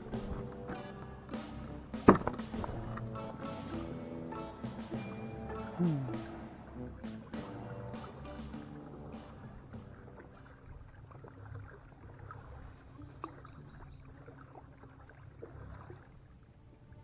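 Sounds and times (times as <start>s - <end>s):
water lapping against a hull: 0.0s - 17.0s.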